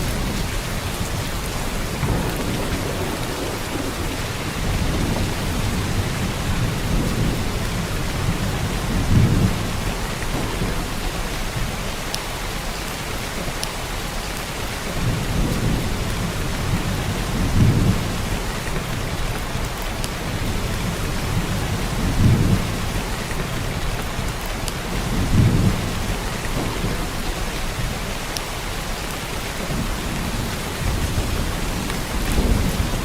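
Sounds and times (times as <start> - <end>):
heavy rain hiss: 0.0 - 33.0.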